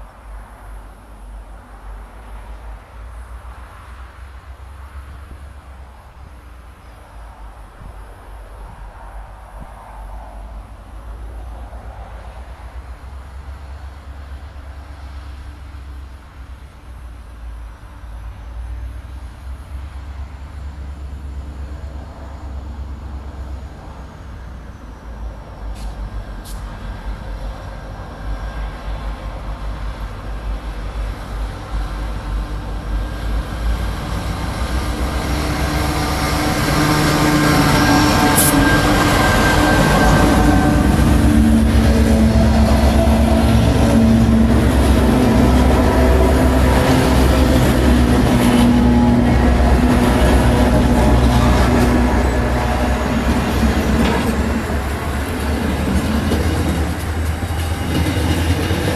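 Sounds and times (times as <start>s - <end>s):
diesel train engine rumble: 0.0s - 58.9s.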